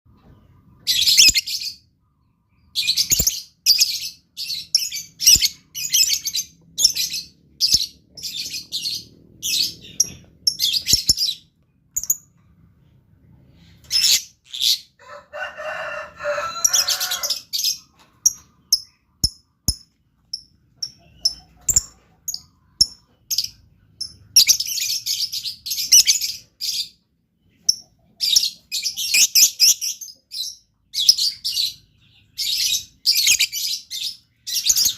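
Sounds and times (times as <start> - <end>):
lovebird chirping: 0.2 - 12.5, 13.6 - 14.9, 16.6 - 34.9.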